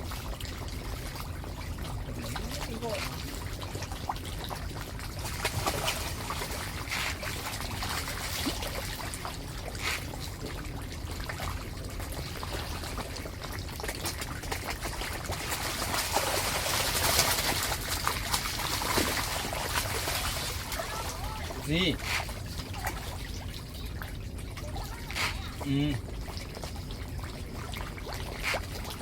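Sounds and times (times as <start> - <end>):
small clicks and splashes: 0.0 - 29.0
water trickling and pouring: 0.0 - 29.0.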